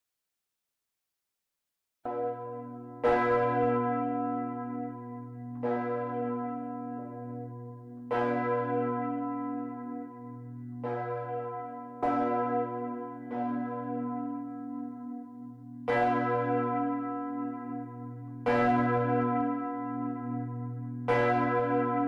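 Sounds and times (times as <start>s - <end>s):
church bell ringing: 2.1s - 22.0s.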